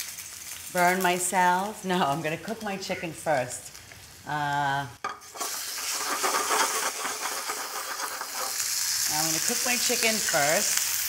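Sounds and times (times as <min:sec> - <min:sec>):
chicken sizzling in oil: 0:00.0 - 0:03.0, 0:03.6 - 0:11.0.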